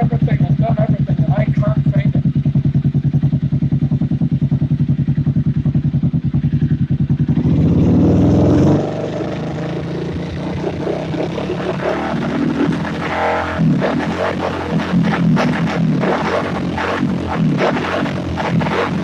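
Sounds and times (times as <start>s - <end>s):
engine running with a misfire: 0.0s - 19.0s.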